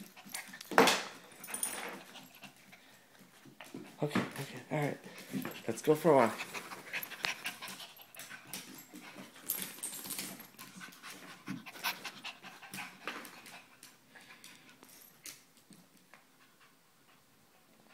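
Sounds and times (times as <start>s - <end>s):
dog panting: 0.0s - 0.7s, 1.3s - 4.2s, 4.9s - 15.1s, 16.1s - 17.9s.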